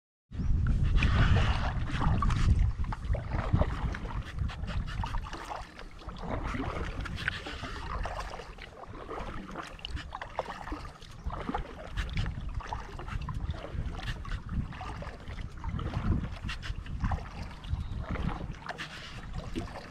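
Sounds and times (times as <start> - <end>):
wind on microphone: 0.3 - 19.9
water splashing from paddling: 0.8 - 19.9.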